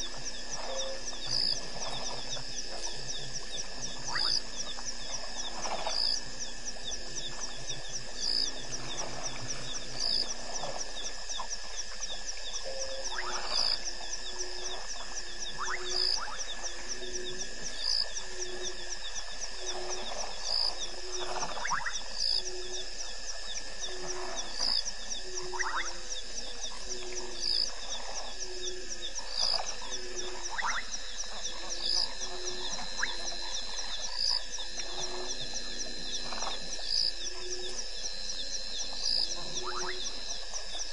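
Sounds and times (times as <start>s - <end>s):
insects chirping: 0.0s - 40.9s
louder higher insect call: 0.0s - 40.9s
steady high insect tone: 0.0s - 40.9s.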